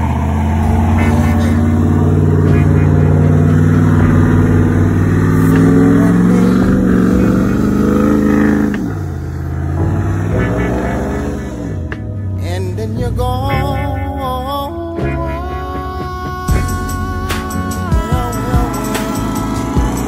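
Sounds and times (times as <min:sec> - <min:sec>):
truck engine revving high: 0:00.0 - 0:20.0.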